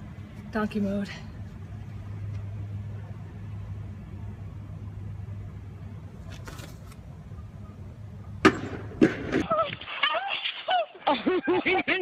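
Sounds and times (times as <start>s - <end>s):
low outdoor rumble: 0.0s - 9.9s.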